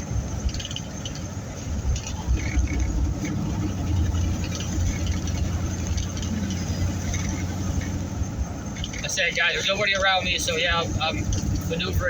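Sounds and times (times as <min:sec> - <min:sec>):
truck engine and road noise: 0:00.0 - 0:12.0
light ticks and crackles: 0:00.4 - 0:08.0, 0:08.6 - 0:12.0.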